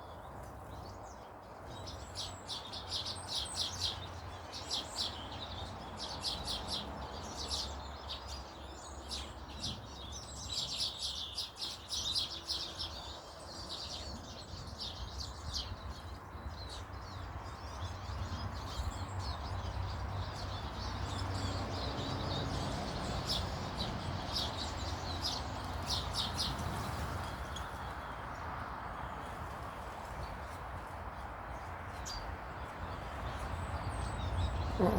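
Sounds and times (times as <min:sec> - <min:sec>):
small birds chirping: 0:00.0 - 0:30.6, 0:31.4 - 0:34.9.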